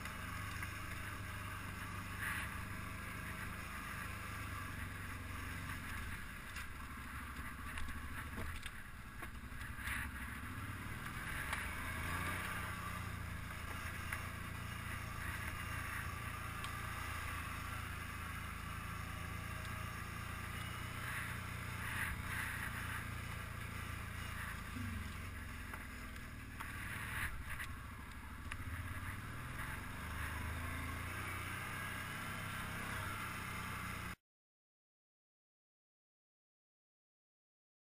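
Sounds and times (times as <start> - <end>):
quad bike engine running: 0.0 - 34.2.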